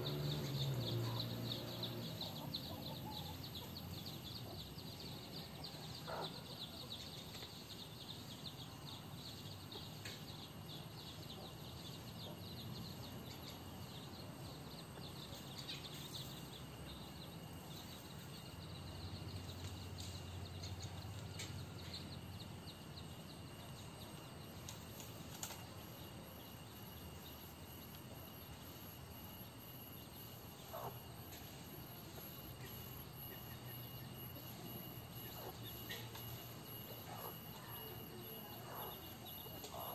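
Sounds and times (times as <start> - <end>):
outdoor background noise: 0.0 - 39.9.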